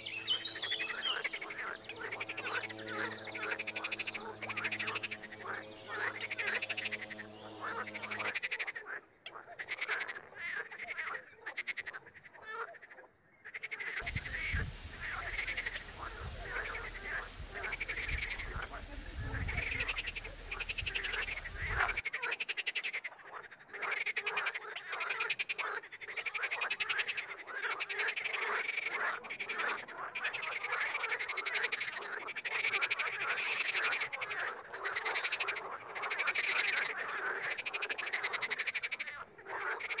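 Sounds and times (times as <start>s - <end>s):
frogs croaking: 0.0s - 40.0s.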